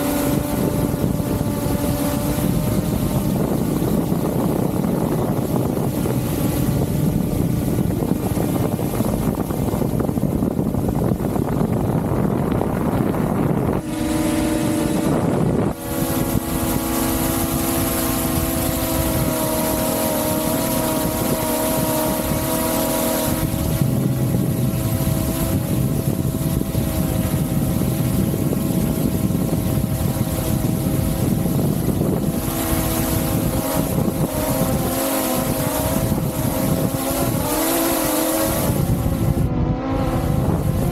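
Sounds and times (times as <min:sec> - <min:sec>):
drone motors whining: 0:00.0 - 0:40.9
rushing prop wash: 0:00.0 - 0:40.9.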